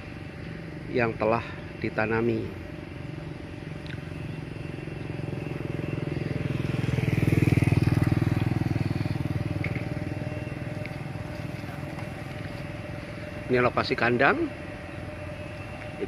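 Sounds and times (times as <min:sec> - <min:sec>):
motorcycle passing by: 0:00.0 - 0:16.0
small motorcycle engine running: 0:00.0 - 0:16.0.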